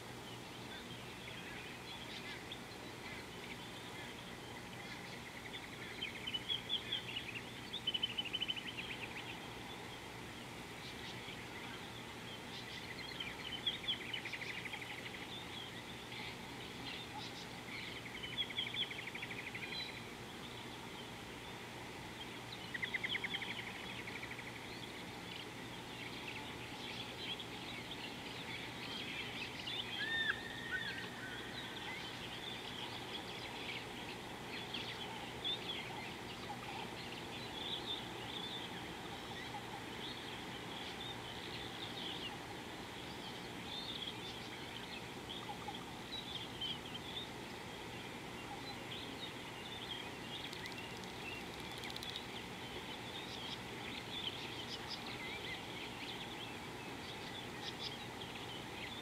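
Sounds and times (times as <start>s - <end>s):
birds trilling and chirping: 0.0s - 59.0s
steady background hiss: 0.0s - 59.0s.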